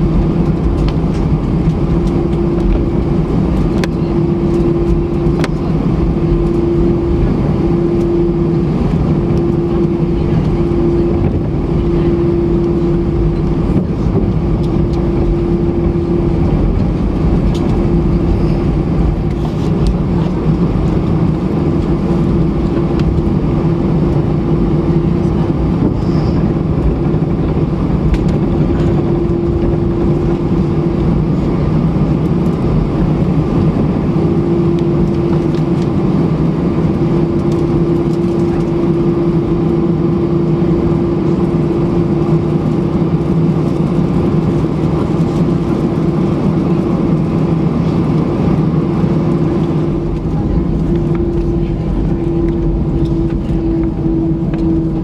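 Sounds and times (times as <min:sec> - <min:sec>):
humming tone: 0:00.0 - 0:44.8, 0:45.7 - 0:55.0
jet engine cabin drone: 0:00.0 - 0:55.0.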